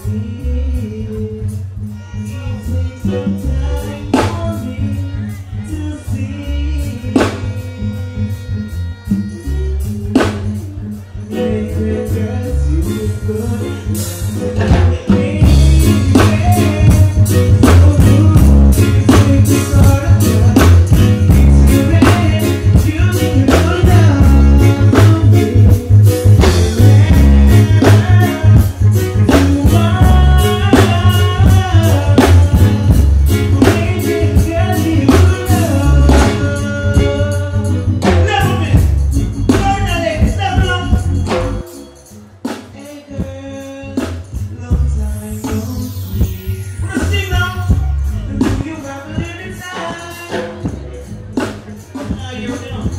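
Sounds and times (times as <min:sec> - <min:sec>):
backing track with heavy bass: 0:00.0 - 0:52.9
man singing into microphone: 0:00.0 - 0:52.9.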